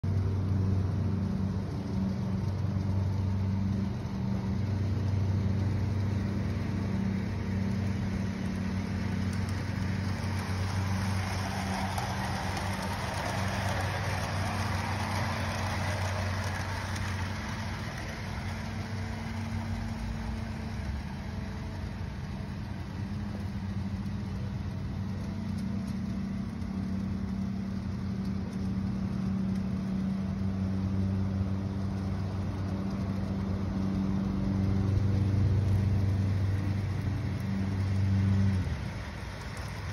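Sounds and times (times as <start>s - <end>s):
model train rolling on track: 0.0s - 39.9s
steady low hum: 0.0s - 39.9s.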